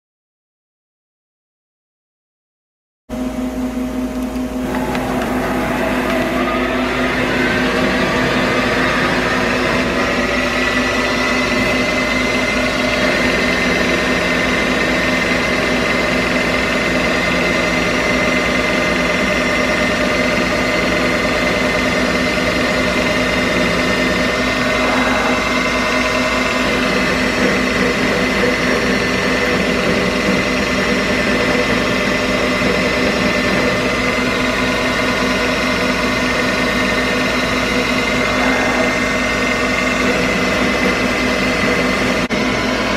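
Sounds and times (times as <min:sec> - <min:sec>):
lathe spindle whine: 0:03.2 - 0:42.9.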